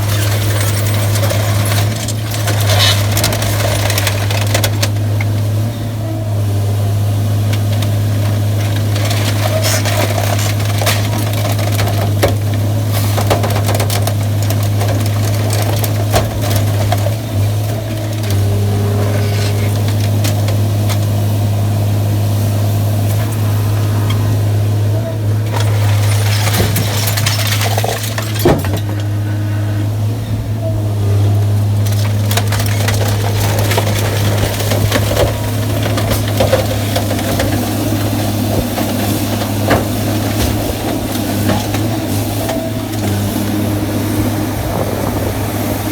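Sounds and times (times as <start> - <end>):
low machine hum: 0.0 - 45.9
scrap metal clanking and crunching: 0.0 - 45.9.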